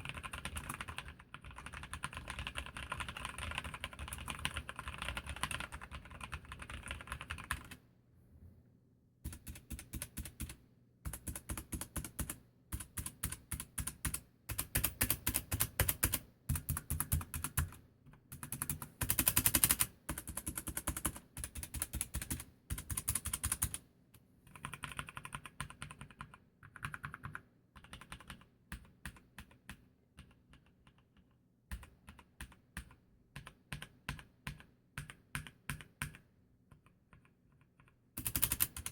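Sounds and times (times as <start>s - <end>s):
mechanical keyboard typing: 0.0s - 7.8s, 9.3s - 23.8s, 24.4s - 38.9s.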